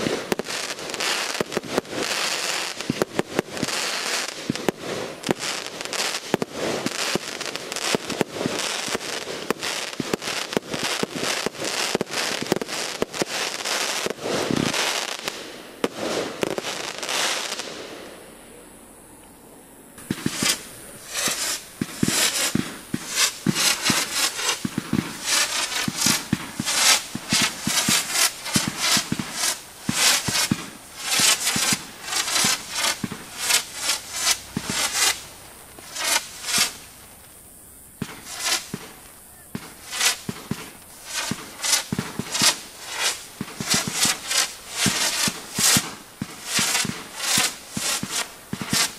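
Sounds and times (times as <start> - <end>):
fireworks bursts and crackling: 0.0 - 48.9.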